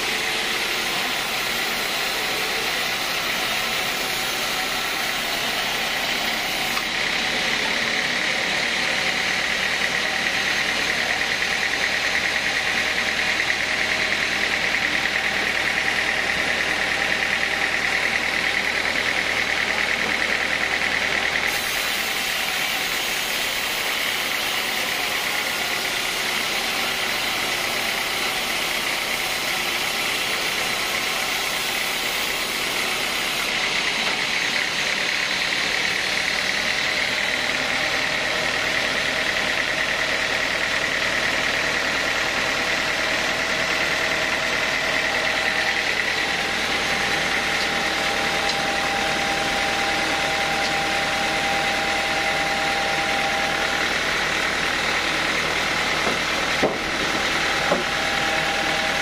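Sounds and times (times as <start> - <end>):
band saw drone and whine: 0.0 - 59.0.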